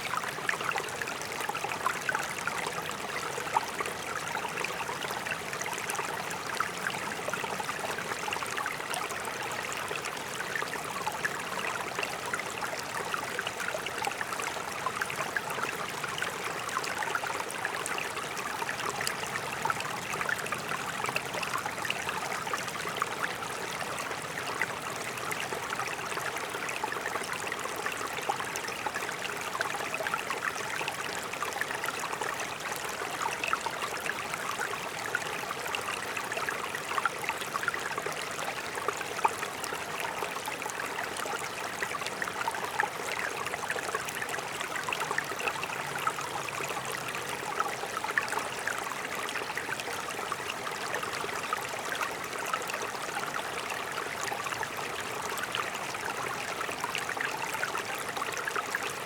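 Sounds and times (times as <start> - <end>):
brook water burbling over stones: 0.0 - 59.0.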